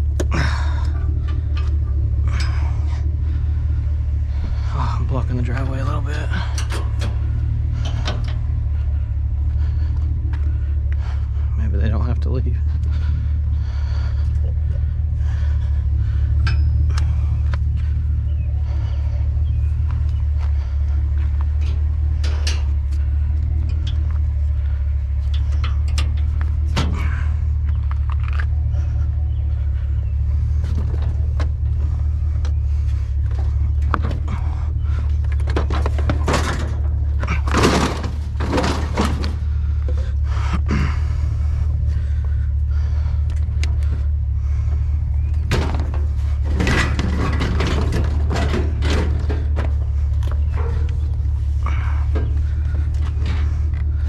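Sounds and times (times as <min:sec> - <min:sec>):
junk clanking and rattling: 0:00.0 - 0:54.0
vehicle engine idling: 0:00.0 - 0:54.0.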